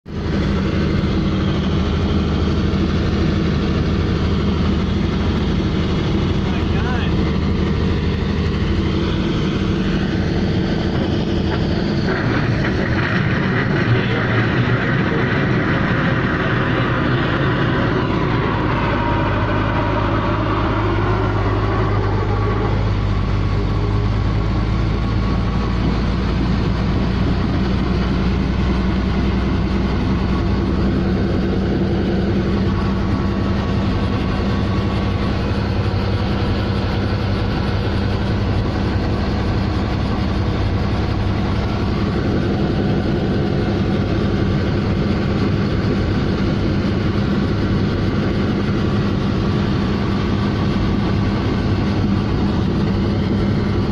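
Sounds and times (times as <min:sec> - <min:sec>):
helicopter turbine and rotor: 0:00.1 - 0:53.9.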